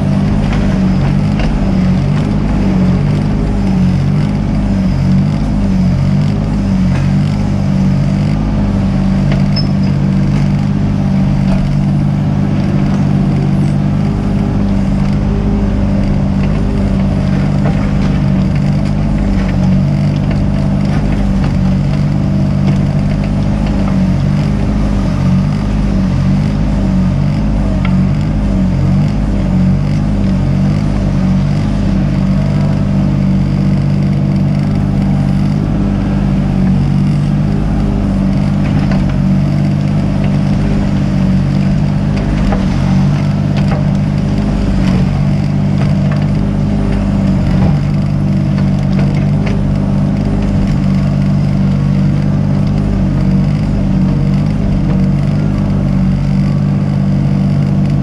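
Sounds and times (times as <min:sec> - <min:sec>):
excavator diesel engine running: 0:00.0 - 0:58.0
faint clicks and clatters: 0:00.0 - 0:58.0.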